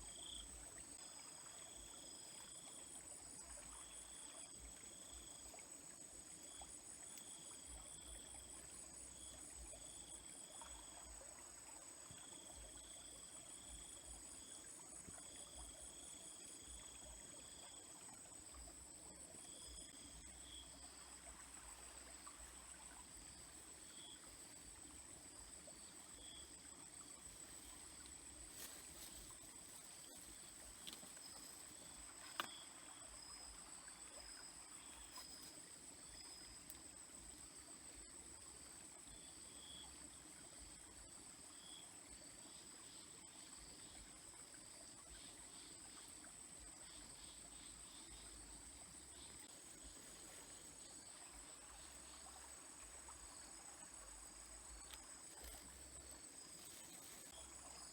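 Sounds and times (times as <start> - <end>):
crickets trilling: 0.0 - 57.9
trickling stream: 0.0 - 57.9.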